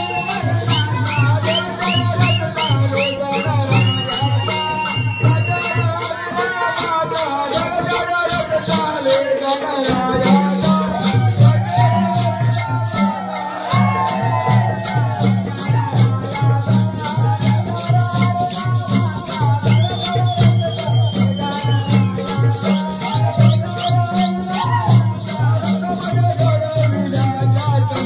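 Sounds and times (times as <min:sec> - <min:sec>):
jingling percussion: 0:00.0 - 0:28.0.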